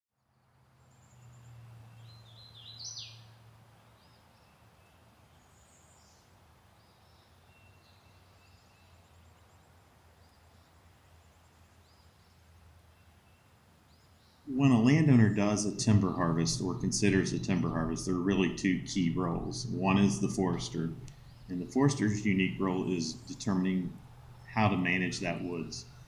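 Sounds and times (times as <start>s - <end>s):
songbirds chirping: 0.2s - 26.0s
faint low steady hum: 1.0s - 26.0s.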